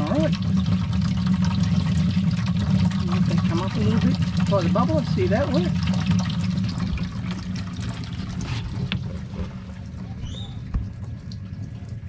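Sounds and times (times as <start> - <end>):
steady low hum: 0.0 - 12.0
water splashing into tank: 0.0 - 12.0.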